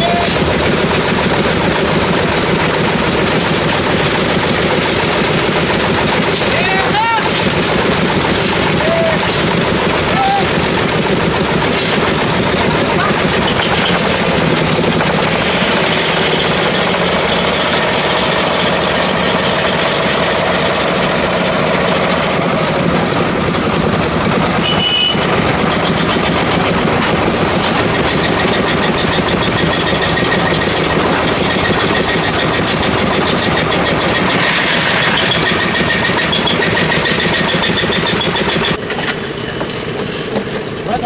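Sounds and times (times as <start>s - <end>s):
diesel machinery rattling: 0.0s - 41.0s.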